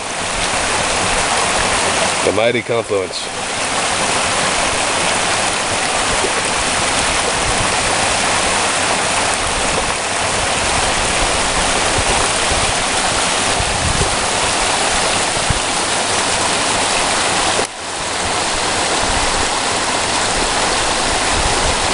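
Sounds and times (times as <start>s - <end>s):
creek water running over rocks: 0.0s - 21.9s.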